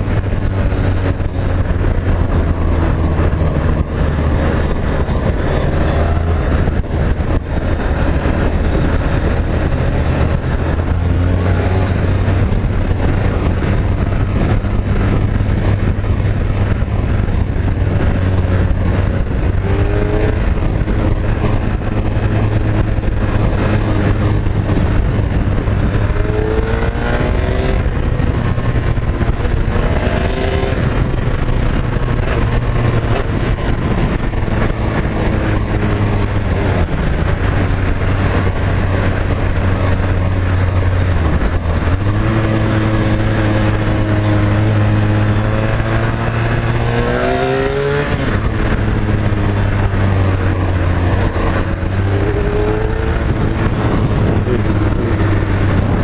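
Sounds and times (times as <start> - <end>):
motorcycle engine droning: 0.0 - 56.0
wind and road rush: 0.0 - 56.0.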